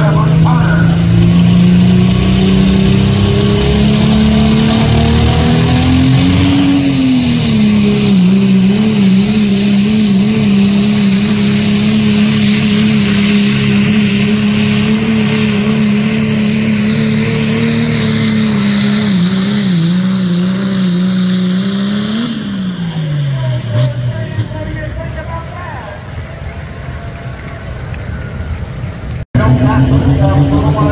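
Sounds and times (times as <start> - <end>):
turbo whine: 0.0 - 27.1
diesel engine at high revs: 0.0 - 30.9.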